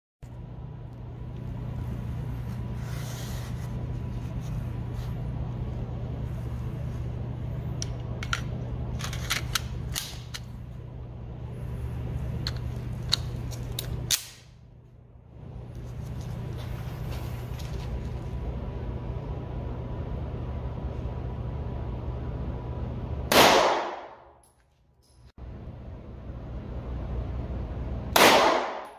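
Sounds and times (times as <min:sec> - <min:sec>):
steady low hum: 0:00.2 - 0:28.9.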